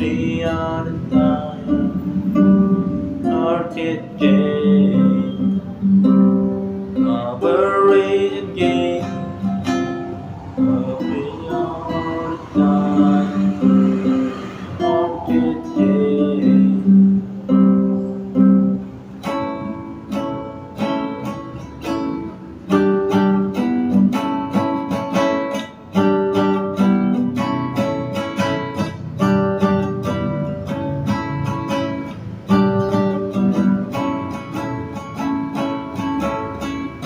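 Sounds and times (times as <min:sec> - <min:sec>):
guitar strummed and picked: 0:00.0 - 0:37.0.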